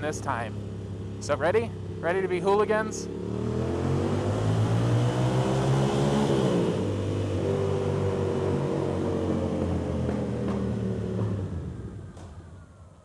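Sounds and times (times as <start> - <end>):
motorcycle engine accelerating: 0.0 - 12.8.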